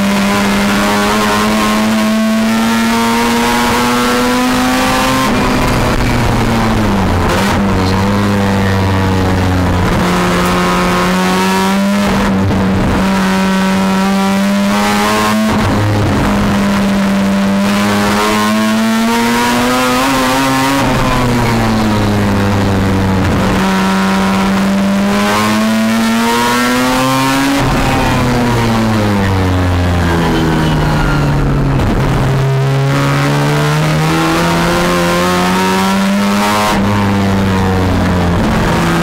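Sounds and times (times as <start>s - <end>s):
rotary engine racing: 0.0s - 39.0s.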